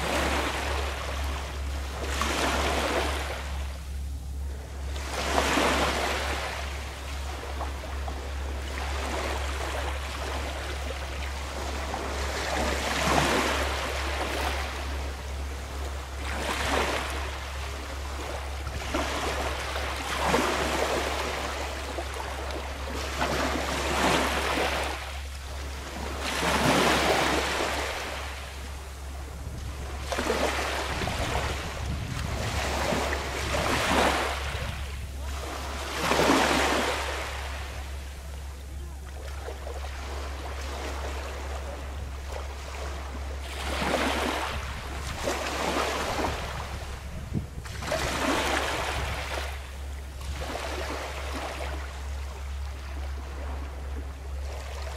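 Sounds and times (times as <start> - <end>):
sea waves washing: 0.0 - 54.9
steady low rumble: 0.0 - 54.9.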